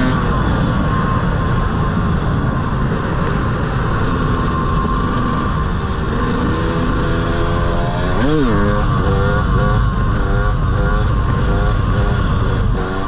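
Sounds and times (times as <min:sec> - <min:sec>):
dirt bike engine running: 0:00.0 - 0:13.0
wind rumble on microphone: 0:00.0 - 0:13.0.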